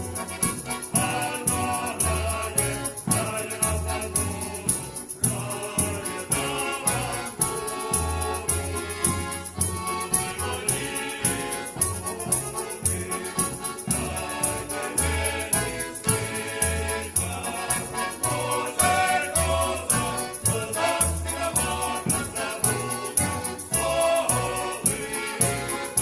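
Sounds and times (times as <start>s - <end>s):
bass notes: 0.0s - 26.0s
folk choir singing: 0.0s - 26.0s
jingling percussion: 0.0s - 26.0s.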